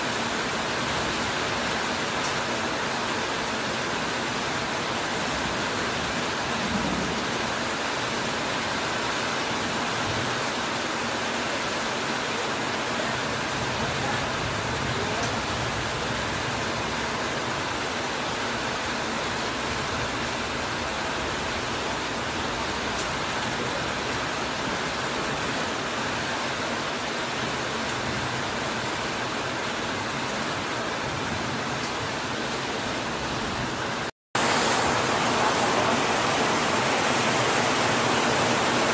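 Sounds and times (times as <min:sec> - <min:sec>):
heavy rain on metal roof and leaves: 0:00.0 - 0:38.9.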